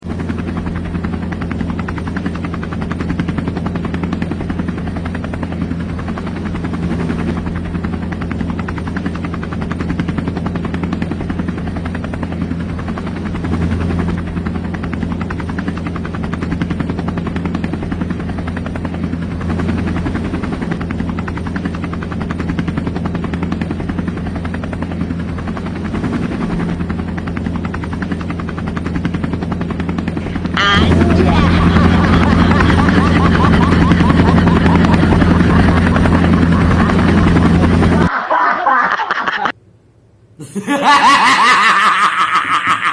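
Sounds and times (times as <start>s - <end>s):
low mechanical drone with flutter: 0.0s - 38.1s.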